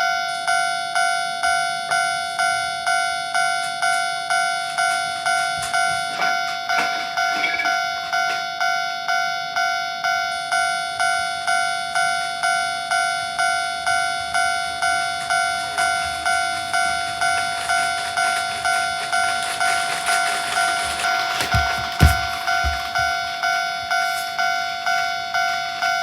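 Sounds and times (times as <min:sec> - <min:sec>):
level-crossing warning bell: 0:00.0 - 0:26.0.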